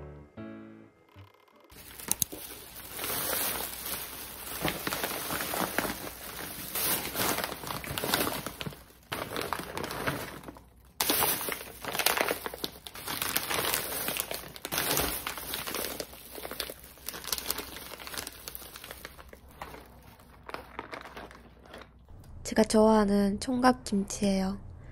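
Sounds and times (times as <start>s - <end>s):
plastic bags rustling: 1.7s - 22.1s.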